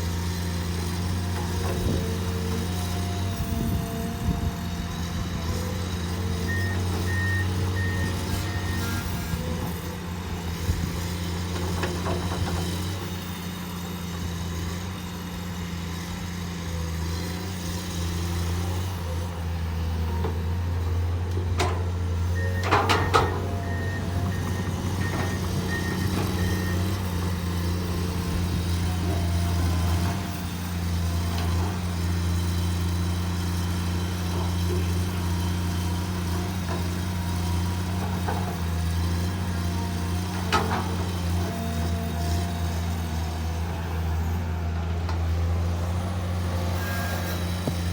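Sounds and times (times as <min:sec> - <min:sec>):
excavator diesel engines running: 0:00.0 - 0:47.9.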